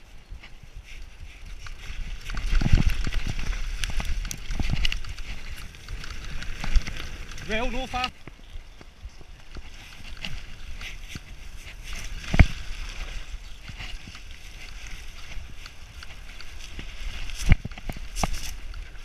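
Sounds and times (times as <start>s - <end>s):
mountain bike rattling: 0.0s - 19.0s.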